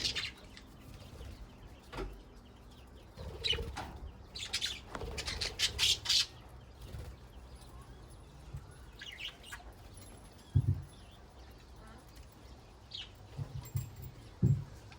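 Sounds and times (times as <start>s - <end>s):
budgerigars chirping and squawking: 0.0s - 7.8s, 8.4s - 13.3s.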